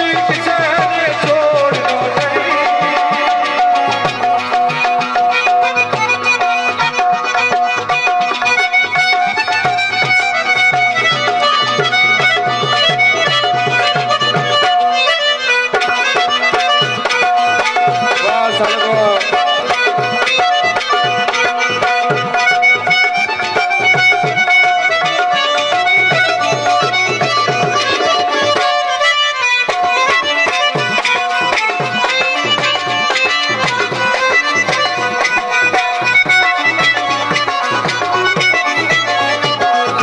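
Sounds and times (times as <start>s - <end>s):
hand drum beat: 0.0s - 40.0s
sustained melody line: 0.0s - 40.0s.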